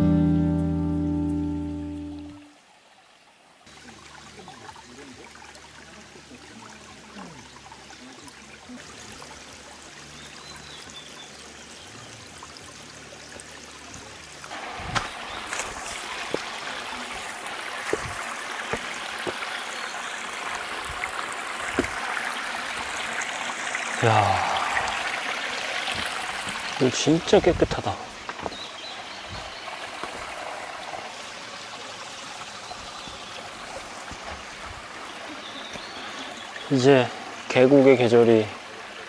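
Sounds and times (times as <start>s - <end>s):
stream trickling over stones: 0.2s - 39.0s.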